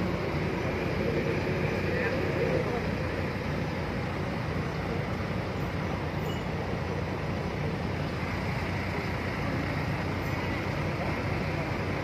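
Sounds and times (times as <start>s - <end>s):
crane engine droning: 0.0s - 12.0s.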